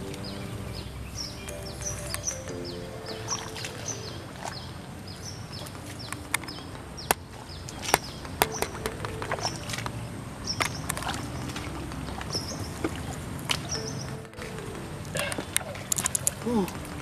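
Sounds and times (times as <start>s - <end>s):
small birds chirping: 0.0s - 17.0s
water splashes: 0.0s - 17.0s.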